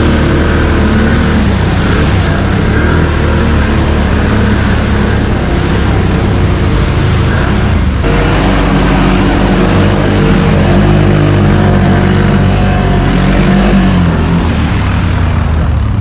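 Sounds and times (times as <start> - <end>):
quad bike engines running: 0.0 - 16.0
water and mud splashing: 0.0 - 16.0.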